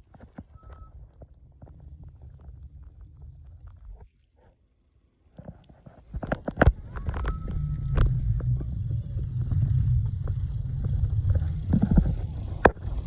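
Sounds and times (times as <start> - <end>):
wind rumbling on microphone: 0.0 - 4.2, 5.4 - 13.0.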